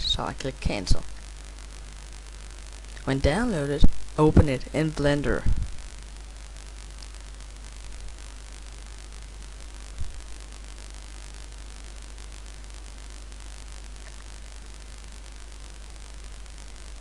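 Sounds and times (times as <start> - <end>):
microphone hiss and hum: 0.0 - 17.0.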